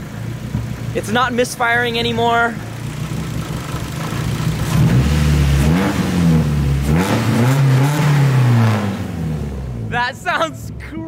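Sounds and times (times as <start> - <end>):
car engine revving: 0.0 - 10.1.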